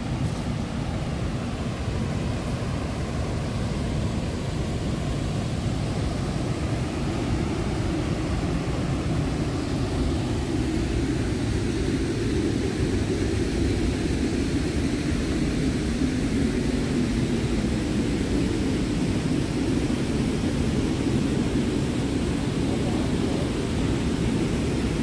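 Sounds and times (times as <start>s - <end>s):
fast river current: 0.0s - 25.0s
waterfall roaring: 0.0s - 25.0s.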